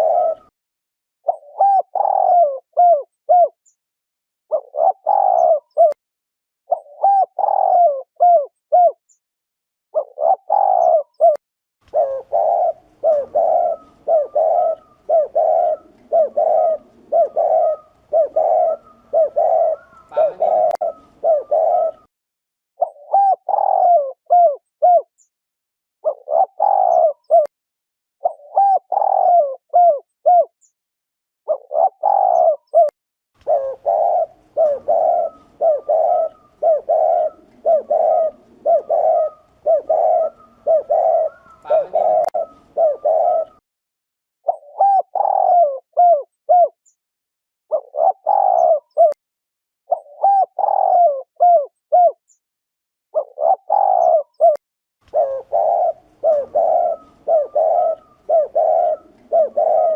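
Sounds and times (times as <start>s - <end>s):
dove cooing: 0.0s - 0.5s, 1.3s - 3.6s, 4.5s - 6.0s, 6.7s - 9.0s, 10.0s - 22.1s, 22.8s - 25.1s, 26.0s - 27.5s, 28.2s - 30.5s, 31.5s - 43.6s, 44.5s - 46.8s, 47.7s - 49.2s, 49.9s - 52.2s, 53.2s - 59.9s.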